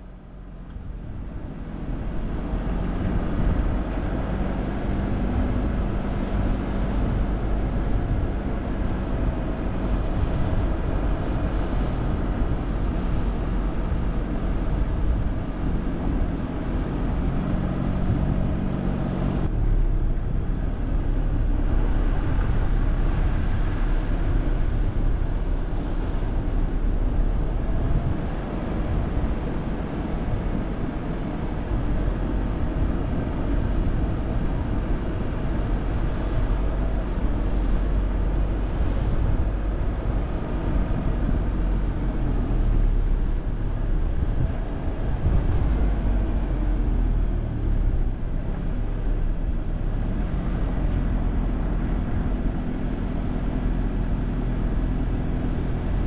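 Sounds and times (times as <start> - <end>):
low hum: 0.0 - 56.0
outdoor rumble: 0.0 - 56.0.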